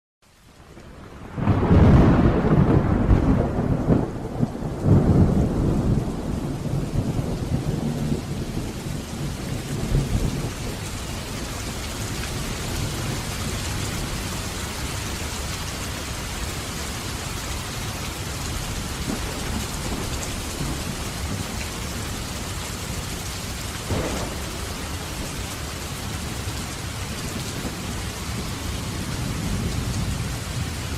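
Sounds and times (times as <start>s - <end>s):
heavy rain falling: 0.2s - 30.9s
thunder rumbling: 0.9s - 30.9s.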